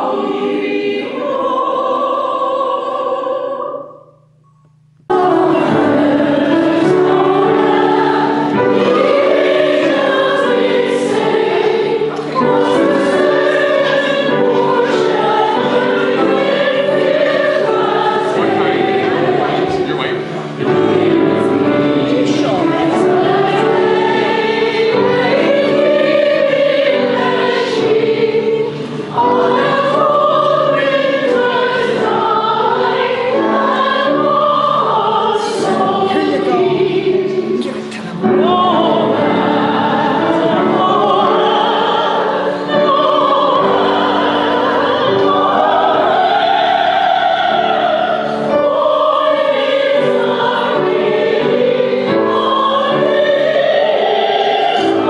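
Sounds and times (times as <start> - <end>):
choir singing classical style: 0.0 - 4.3, 5.1 - 55.0.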